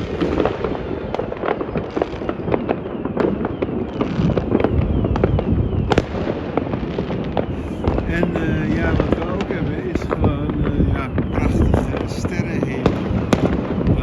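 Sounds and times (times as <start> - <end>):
distant fireworks crackling: 0.0 - 14.0
loud sharp firework crack: 0.0 - 14.0.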